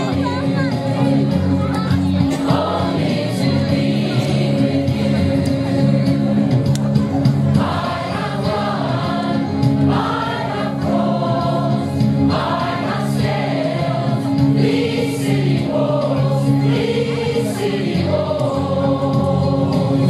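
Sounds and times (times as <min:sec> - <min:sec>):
mixed choir singing: 0:00.7 - 0:06.6, 0:07.4 - 0:20.0.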